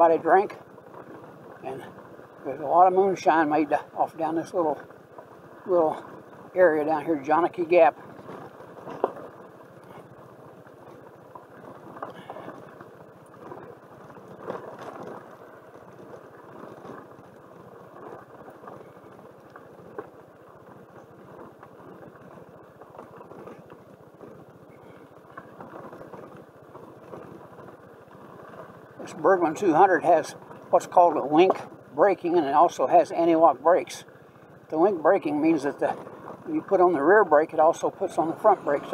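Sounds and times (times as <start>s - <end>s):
scooter engine: 0.0s - 38.9s
tyres on gravel road: 0.0s - 38.9s.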